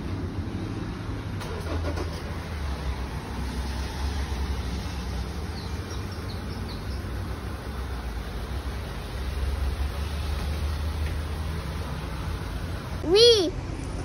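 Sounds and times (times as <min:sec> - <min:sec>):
low rumble of road traffic: 0:00.0 - 0:14.0.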